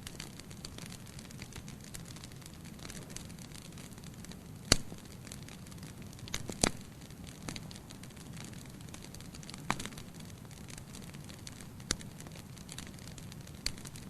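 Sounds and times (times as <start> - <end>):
burning wood popping: 0.0 - 14.0
campfire hissing and crackling: 0.0 - 14.0.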